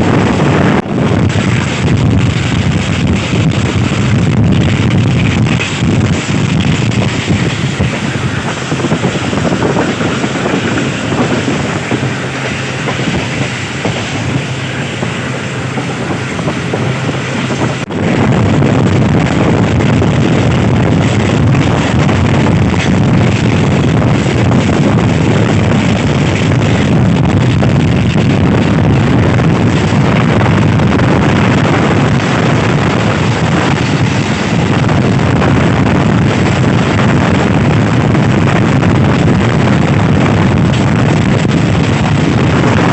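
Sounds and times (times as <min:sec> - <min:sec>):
train carriage rumbling: 0:00.0 - 0:42.9
wind on microphone: 0:00.0 - 0:42.9.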